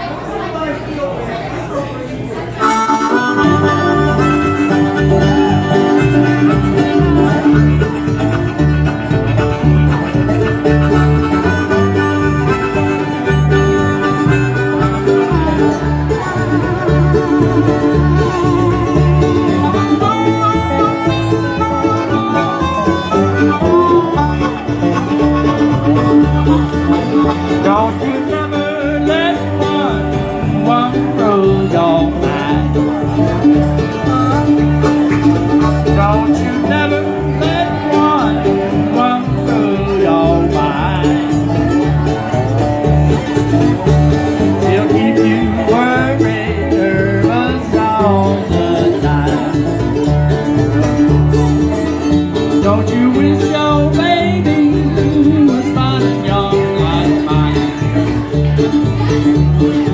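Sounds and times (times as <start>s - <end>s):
walking upright bass: 2.3s - 59.9s
dobro: 2.6s - 59.9s
strummed acoustic guitar: 2.6s - 59.9s
man singing: 3.0s - 42.3s, 43.8s - 50.4s, 51.9s - 58.4s.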